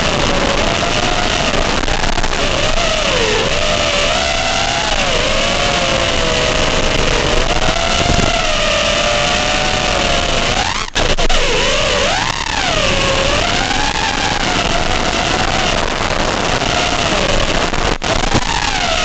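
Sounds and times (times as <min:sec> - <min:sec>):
drone motors whining: 0:00.0 - 0:19.0
steady hiss: 0:00.0 - 0:19.0.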